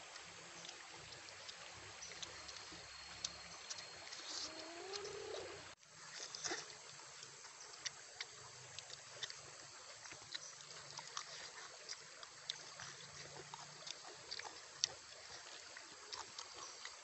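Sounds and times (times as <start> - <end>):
mouth clicks and lip-smacking: 0.1 - 5.6, 6.2 - 17.0.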